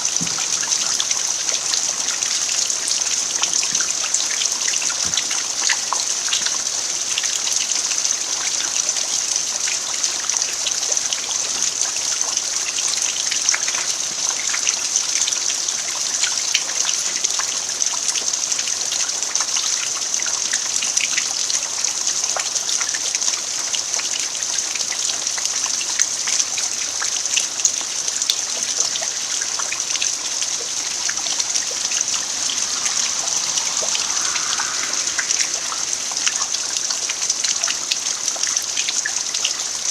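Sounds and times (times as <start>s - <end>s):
rain falling on dirt: 0.0s - 39.9s.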